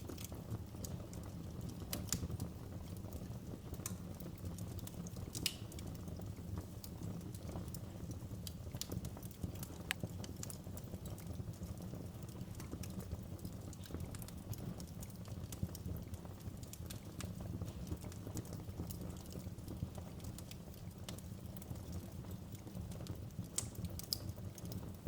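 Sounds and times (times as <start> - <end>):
low rumble of burning: 0.0 - 25.0
wood fire crackling: 0.0 - 25.0.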